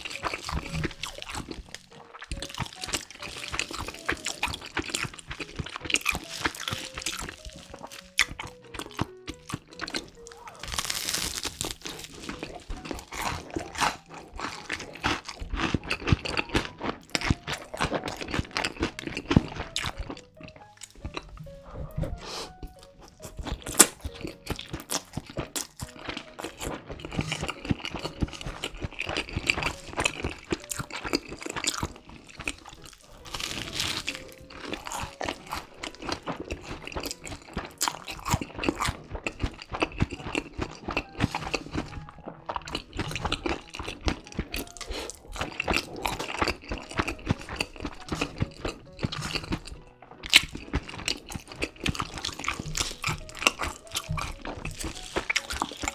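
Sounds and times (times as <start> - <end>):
crunching and chewing: 0.0 - 55.9
faint background music: 0.0 - 55.9.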